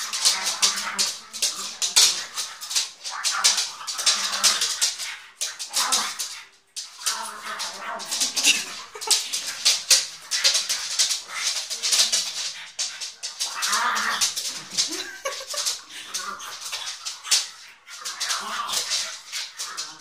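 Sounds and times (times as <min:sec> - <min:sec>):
dog grunting: 0:00.0 - 0:20.0
dogs scratching: 0:00.0 - 0:20.0.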